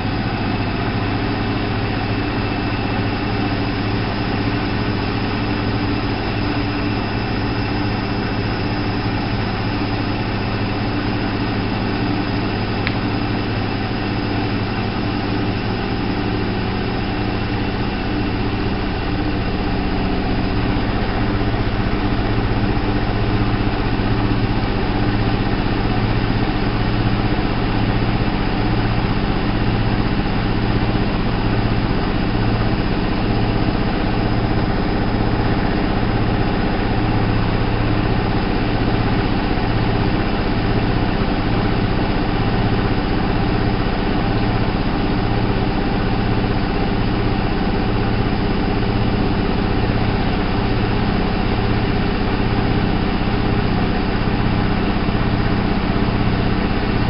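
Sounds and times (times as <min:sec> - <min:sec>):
washing machine humming and throbbing: 0:00.0 - 0:57.0.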